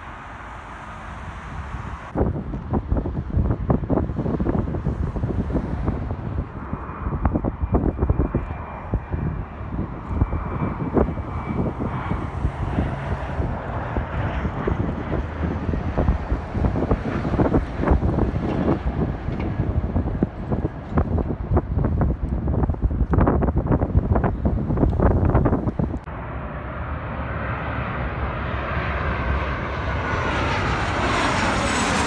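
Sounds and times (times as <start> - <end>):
wind buffeting microphone: 0.0 - 26.1, 27.7 - 32.0
high engine whine: 0.0 - 32.0
jet engines roaring: 0.0 - 32.0.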